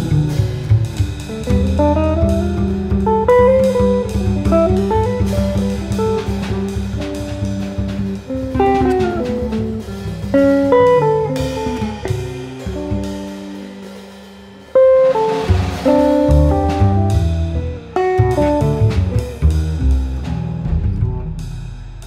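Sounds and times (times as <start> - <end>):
bass notes: 0.0 - 14.0, 14.6 - 22.0
guitar melodic runs: 0.0 - 14.1, 14.7 - 21.3
drums with sticks on cymbals: 0.0 - 22.0.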